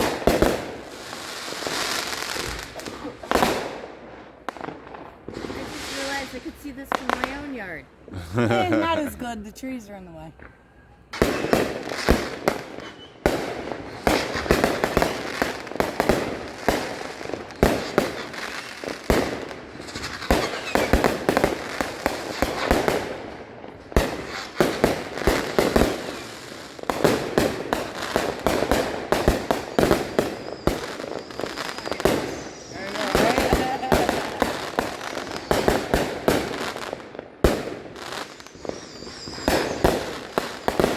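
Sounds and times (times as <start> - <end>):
fireworks bangs: 0.0 - 8.5, 11.1 - 40.9.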